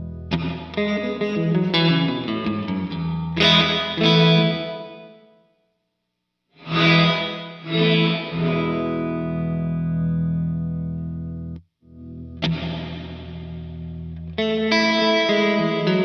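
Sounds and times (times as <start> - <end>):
electric guitar chords with delay: 0.0 - 5.4, 6.6 - 16.0
electric guitar picked notes and chords: 0.0 - 5.5, 6.6 - 16.0.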